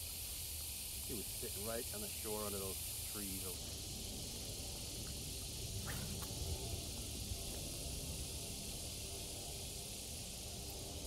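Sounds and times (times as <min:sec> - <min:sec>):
insect chorus hissing: 0:00.0 - 0:11.0.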